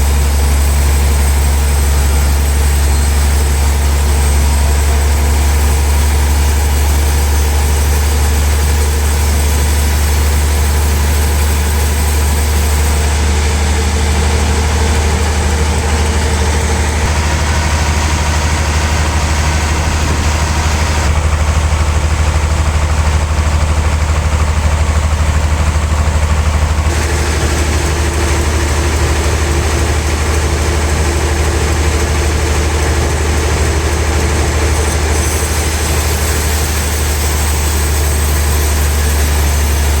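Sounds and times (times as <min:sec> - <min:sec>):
higher-pitched machine noise: 0:00.0 - 0:23.3, 0:26.9 - 0:40.0
deep engine hum: 0:00.0 - 0:40.0.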